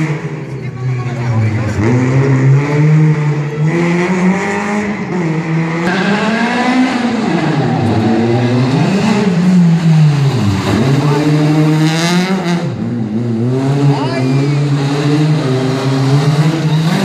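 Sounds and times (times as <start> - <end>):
car engine revving hard: 1.4 - 17.0.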